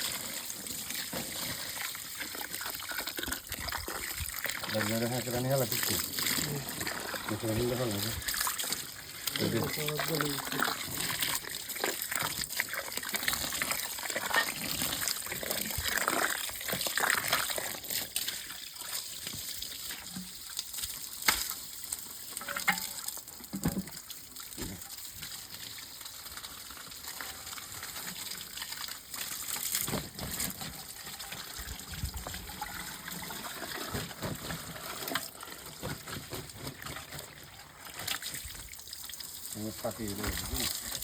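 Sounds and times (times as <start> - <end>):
water splashing and gushing: 0.0 - 41.0.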